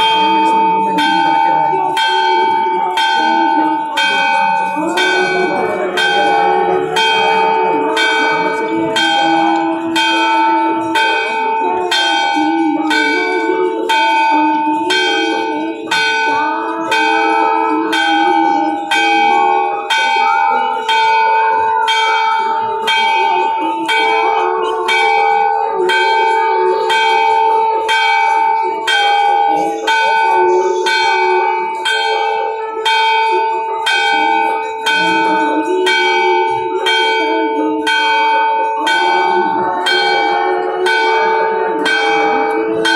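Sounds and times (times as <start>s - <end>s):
temple bell ringing: 0.0s - 42.9s.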